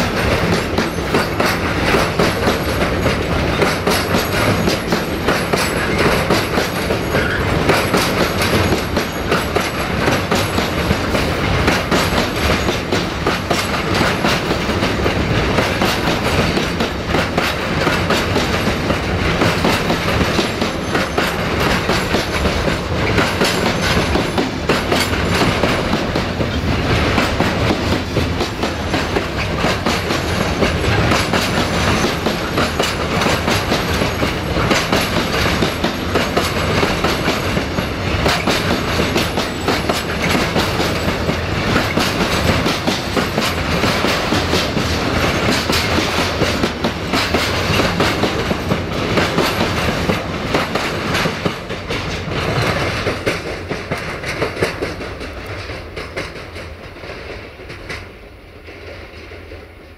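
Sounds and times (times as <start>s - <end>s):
train rumble: 0.0s - 59.9s
train wheels clacking on rail joints: 0.0s - 59.9s.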